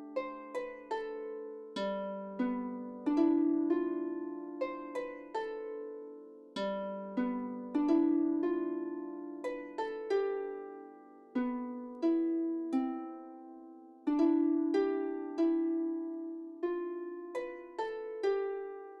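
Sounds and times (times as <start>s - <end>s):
plucked melody: 0.0s - 19.0s.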